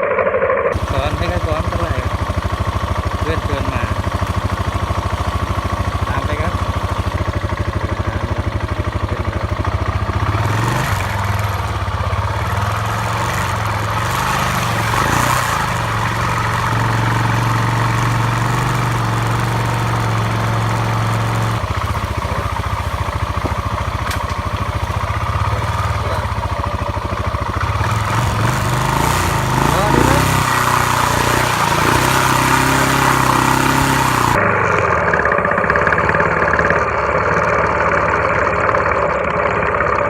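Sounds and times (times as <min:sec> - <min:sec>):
motorcycle engine running: 0:00.7 - 0:40.0.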